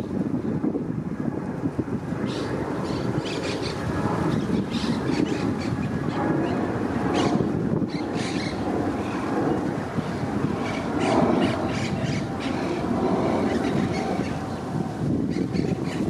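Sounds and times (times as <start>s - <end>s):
jet engines rumbling: 0.0s - 16.0s
wind buffeting microphone: 0.0s - 16.0s.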